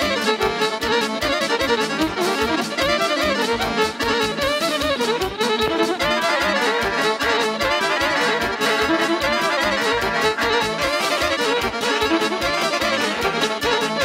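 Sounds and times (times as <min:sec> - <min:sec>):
accordion lead: 0:00.0 - 0:14.0
guitar: 0:00.0 - 0:14.0
keyboards: 0:00.0 - 0:14.0
quick steady beat: 0:00.0 - 0:14.0.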